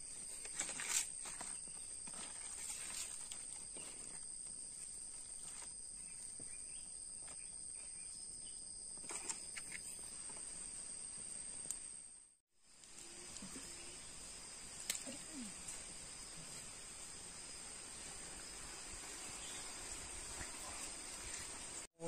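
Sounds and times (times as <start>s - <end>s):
high insect drone: 0.0s - 21.9s.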